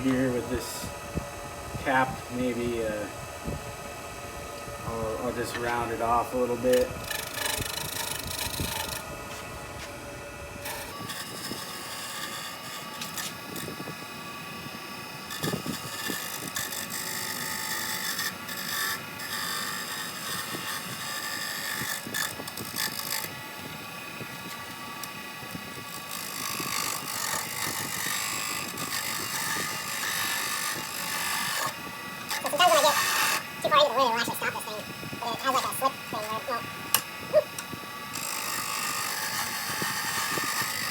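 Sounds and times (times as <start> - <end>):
chisel scraping spinning wood: 0.0 - 1.0, 4.8 - 40.9
wood lathe running: 0.0 - 40.9.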